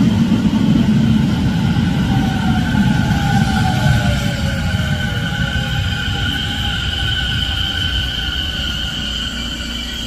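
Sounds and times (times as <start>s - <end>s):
electric train high-pitched whine: 0.0s - 10.0s
low rumble of train wheels: 0.0s - 10.0s.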